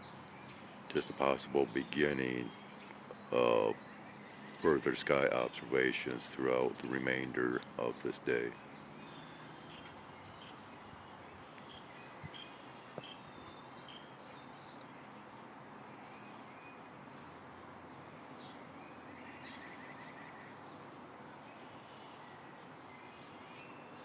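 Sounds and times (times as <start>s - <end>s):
birds chirping: 0.0s - 24.0s
low outdoor hiss: 0.0s - 24.0s.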